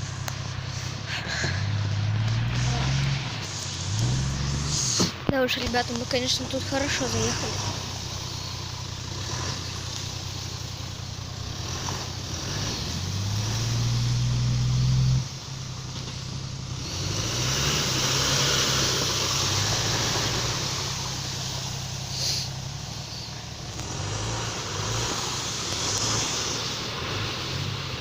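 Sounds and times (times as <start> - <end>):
car engine revving: 0.0 - 28.0
wheels spinning with rushing hiss: 0.0 - 28.0.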